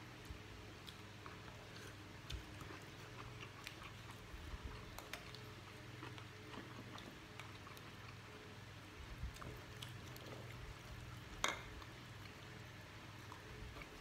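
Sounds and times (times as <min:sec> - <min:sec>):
low steady hum: 0:00.0 - 0:14.0
people chewing and eating: 0:00.0 - 0:14.0.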